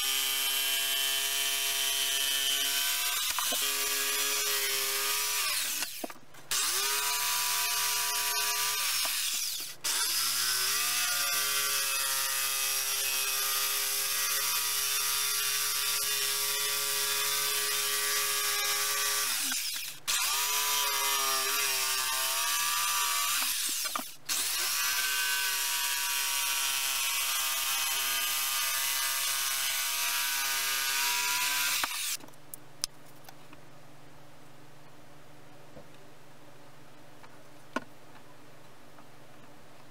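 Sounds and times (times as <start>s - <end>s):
jigsaw cutting wood: 0.0s - 32.2s.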